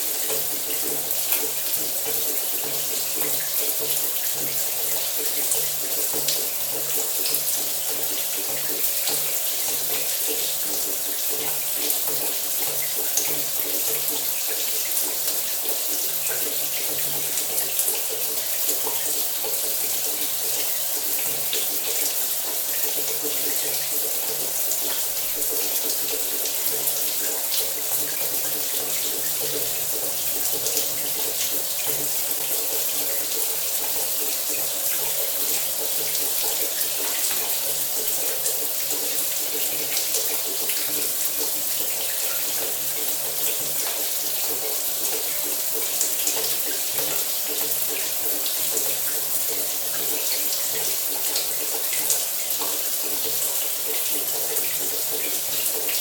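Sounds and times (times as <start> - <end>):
shower water running: 0.0 - 56.0.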